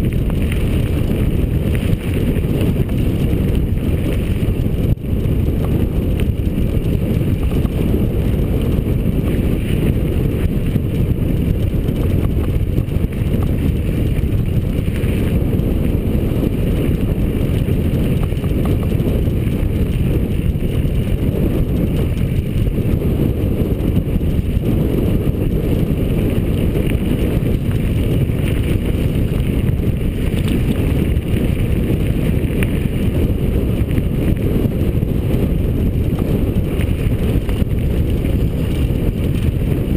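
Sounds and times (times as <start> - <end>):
bike tyres rolling on dirt: 0.0 - 39.9
wind buffeting microphone: 0.0 - 39.9.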